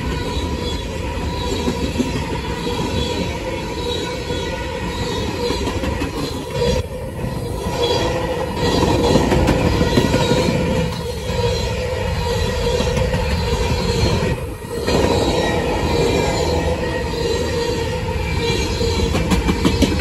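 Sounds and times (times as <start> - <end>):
train wheels rumbling on rails: 0.0 - 20.0
wheel squeal against rail: 0.0 - 20.0.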